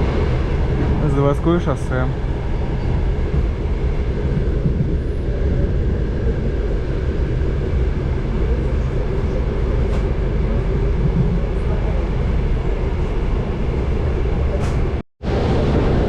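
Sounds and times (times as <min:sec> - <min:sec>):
train car rumbling on track: 0:00.0 - 0:16.0.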